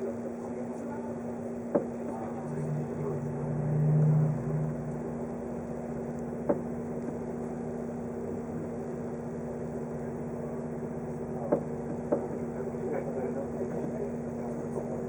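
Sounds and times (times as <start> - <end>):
train car hum: 0.0 - 15.0.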